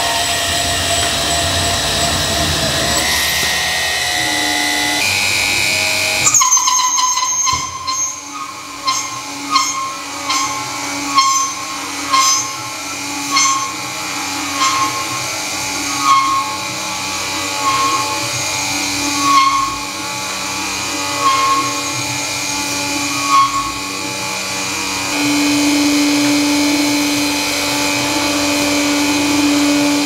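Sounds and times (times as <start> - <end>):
cutter biting metal: 0.0 - 27.0
milling machine whine: 0.0 - 30.0.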